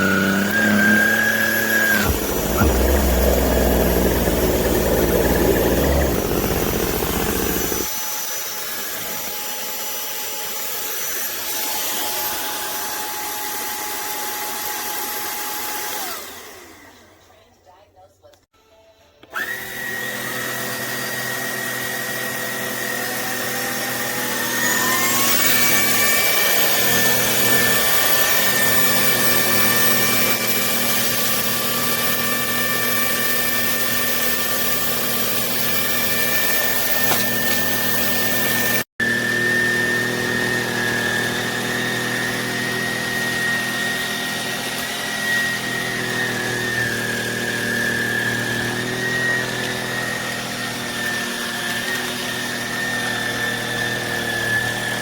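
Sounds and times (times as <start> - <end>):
handheld vacuum cleaner whine: 0.0 - 17.3, 19.2 - 55.0.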